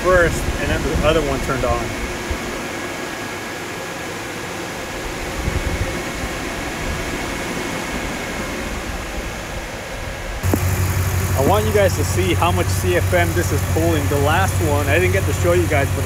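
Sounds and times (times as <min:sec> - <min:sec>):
electric fans running: 0:00.0 - 0:16.0.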